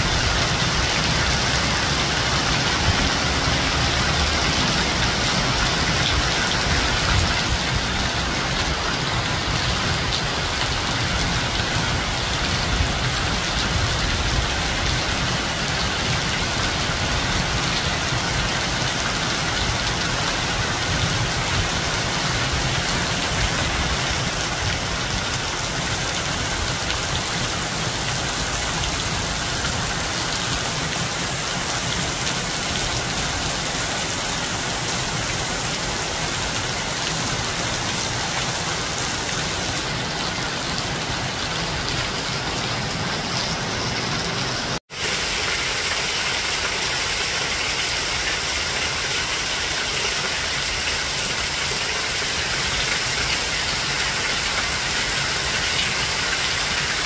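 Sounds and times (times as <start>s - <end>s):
rain falling on foliage: 0.0s - 57.0s.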